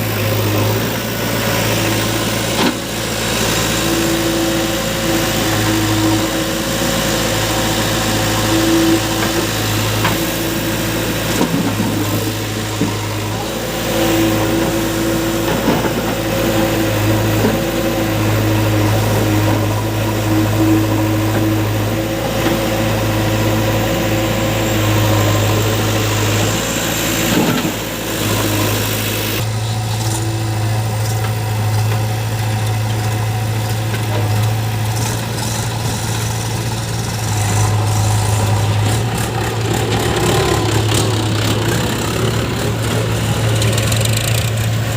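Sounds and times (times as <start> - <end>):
heavy diesel engines droning: 0.0 - 44.9.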